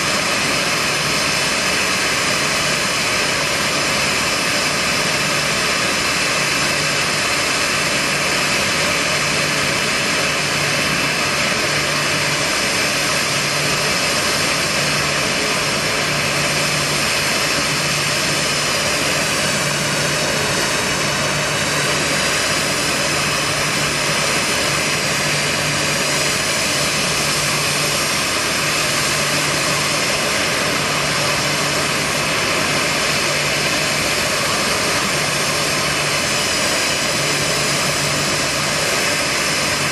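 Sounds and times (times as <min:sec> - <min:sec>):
jet engines idling with fan whine: 0:00.0 - 0:39.9.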